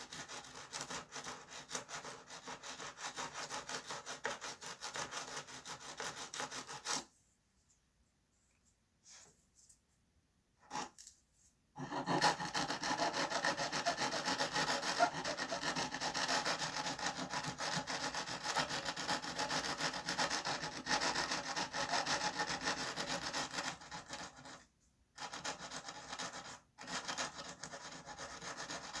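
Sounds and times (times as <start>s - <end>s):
file scraping wood: 0.0s - 7.1s, 10.6s - 11.1s, 11.8s - 29.0s.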